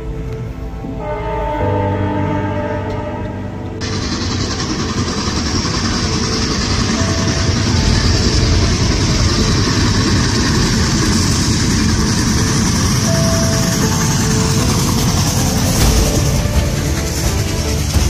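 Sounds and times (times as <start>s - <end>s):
steam locomotive rushing: 0.0s - 18.0s.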